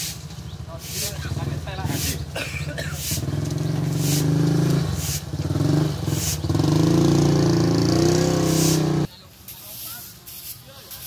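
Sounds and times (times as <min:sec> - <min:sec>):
motor engine revving: 0:00.0 - 0:09.1.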